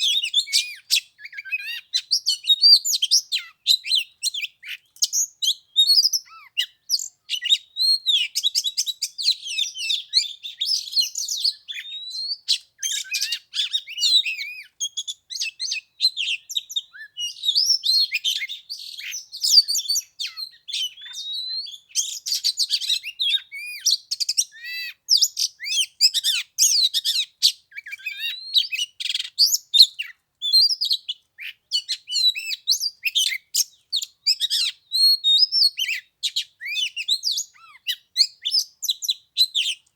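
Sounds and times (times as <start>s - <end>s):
songbird singing varied whistles: 0.0s - 39.9s.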